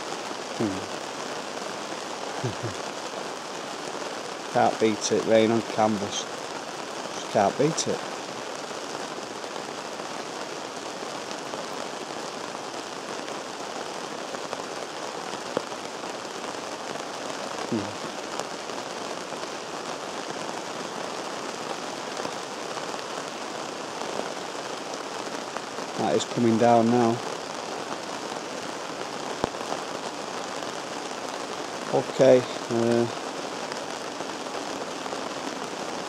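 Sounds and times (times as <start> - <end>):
rain on canvas tent: 0.0 - 36.0.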